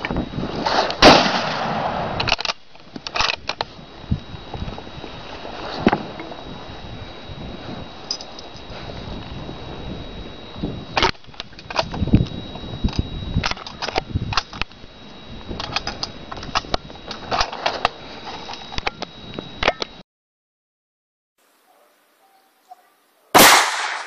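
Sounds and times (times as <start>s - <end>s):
faint high whine: 0.0s - 20.0s, 21.4s - 24.0s.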